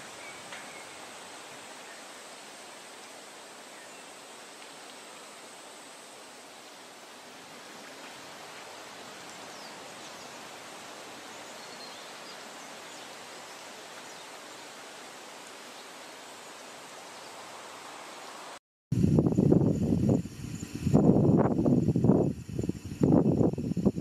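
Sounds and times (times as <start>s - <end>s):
faint outdoor hiss: 0.0s - 24.0s.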